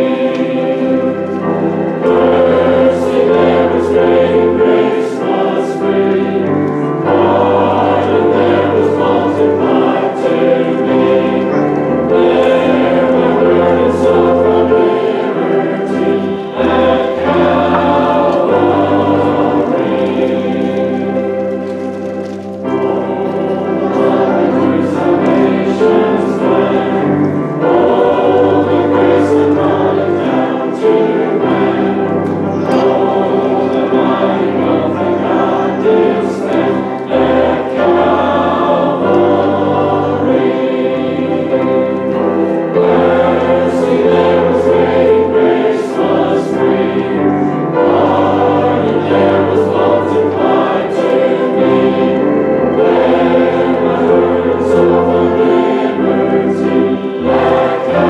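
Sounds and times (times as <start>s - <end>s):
group singing a hymn: 0.0s - 58.0s
sustained keyboard chords: 0.0s - 58.0s.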